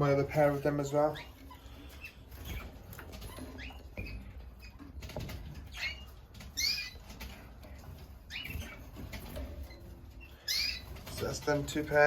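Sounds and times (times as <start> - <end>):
birds fluttering in a cage: 0.0 - 12.0
rustles and light taps: 0.0 - 12.0.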